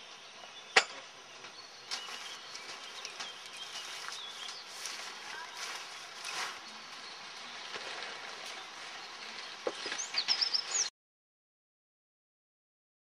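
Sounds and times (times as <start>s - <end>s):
high bird chirps: 0.0s - 10.9s.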